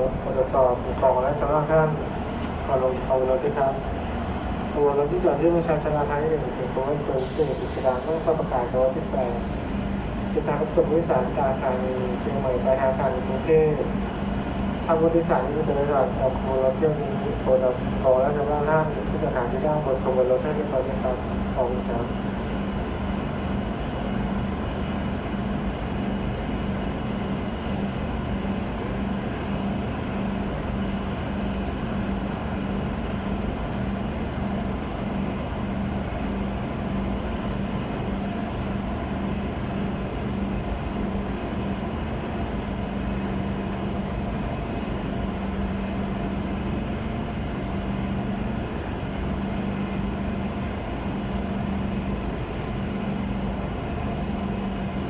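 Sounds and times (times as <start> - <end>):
diesel train engines idling: 0.0 - 55.0.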